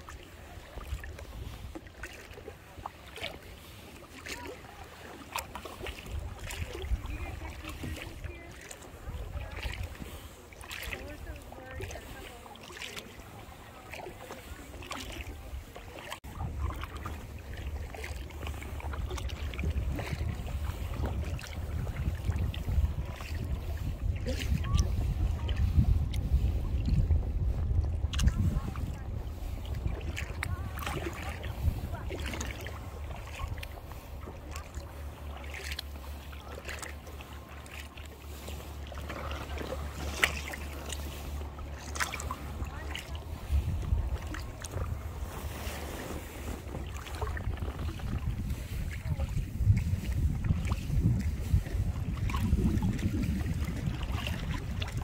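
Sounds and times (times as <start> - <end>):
paddle splashing in water: 0.0 - 55.0
wind rumble on microphone: 5.7 - 12.5, 13.4 - 37.7, 38.3 - 55.0.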